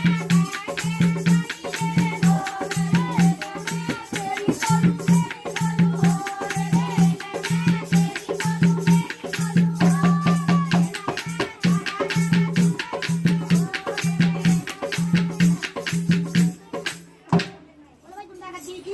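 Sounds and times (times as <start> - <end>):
fast rattling percussion: 0.0 - 17.6.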